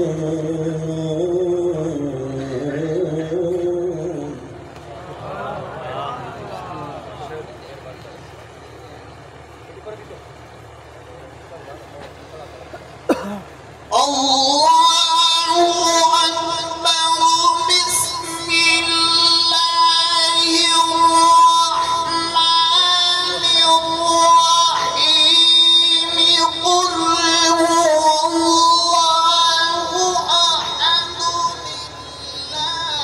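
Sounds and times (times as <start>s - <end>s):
high voice devotional chanting: 0.0s - 7.4s, 13.8s - 33.0s.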